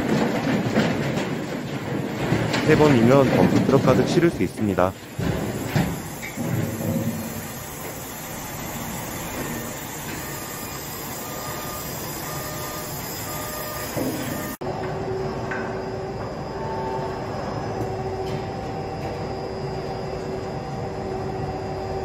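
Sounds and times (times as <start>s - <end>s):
crane hoist running: 0.0s - 22.0s.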